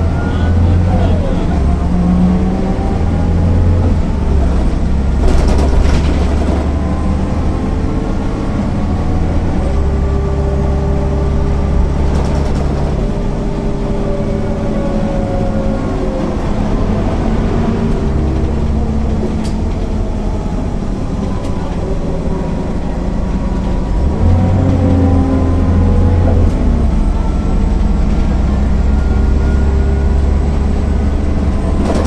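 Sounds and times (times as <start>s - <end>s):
bus diesel engine rumbling: 0.0s - 32.0s
drivetrain whine: 0.0s - 32.0s.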